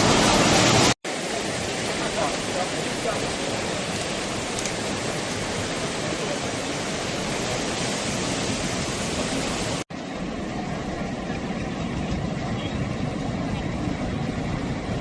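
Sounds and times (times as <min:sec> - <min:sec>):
flood water rushing: 0:00.0 - 0:15.0.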